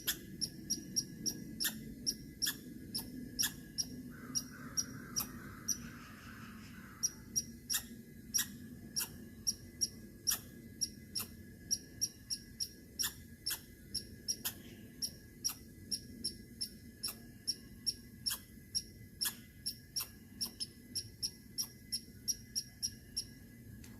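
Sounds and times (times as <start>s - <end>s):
squirrel chirping: 0.0s - 23.4s.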